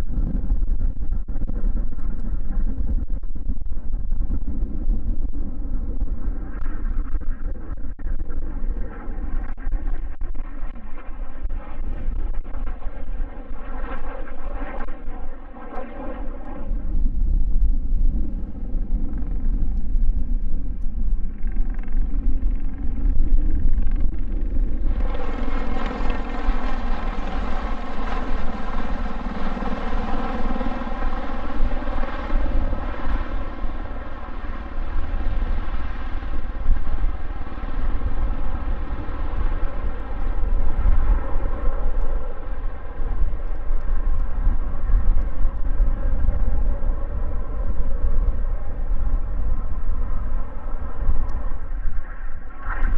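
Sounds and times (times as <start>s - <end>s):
wind on microphone: 0.0s - 52.9s
aircraft engines drone: 8.8s - 52.9s.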